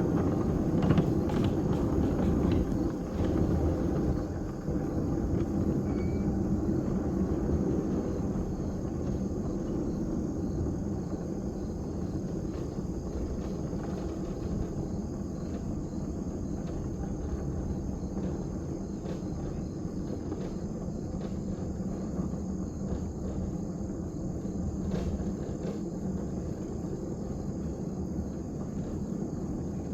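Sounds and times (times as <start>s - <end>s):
small locomotive engine rumble: 0.0s - 29.9s.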